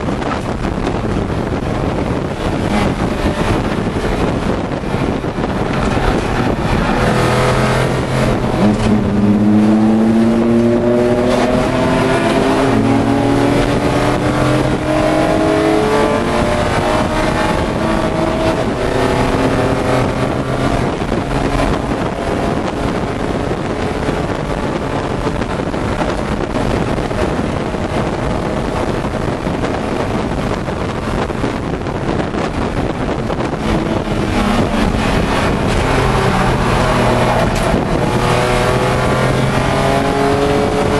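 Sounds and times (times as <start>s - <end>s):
race car engine accelerating: 0.0s - 40.9s
wind and road noise: 0.0s - 40.9s.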